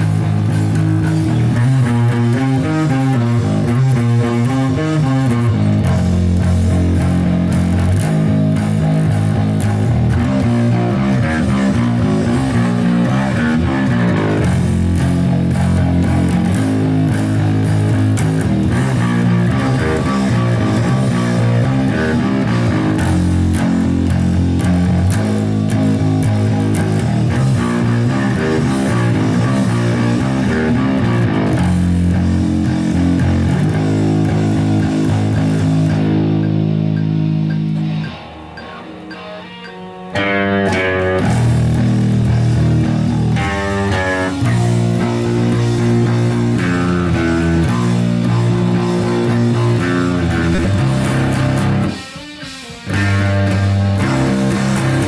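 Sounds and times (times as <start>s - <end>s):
rock music with guitar and bass: 0.0s - 55.0s.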